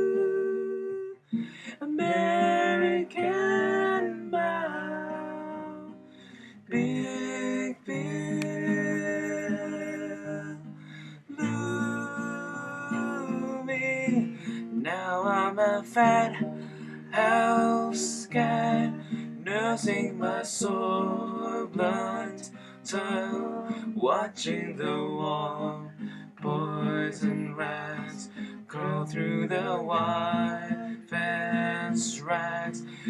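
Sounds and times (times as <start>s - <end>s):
acoustic guitar: 0.0s - 33.0s
voices singing wordless harmony: 0.0s - 33.0s.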